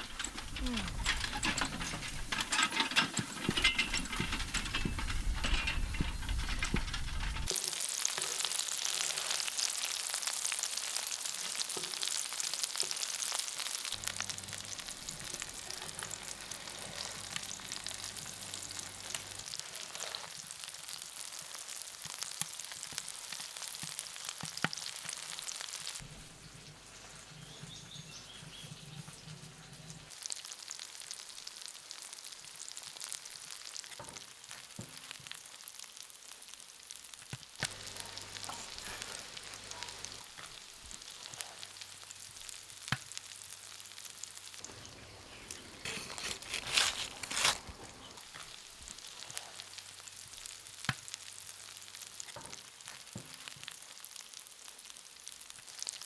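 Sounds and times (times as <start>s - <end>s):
food sizzling in a pan: 7.4s - 56.0s.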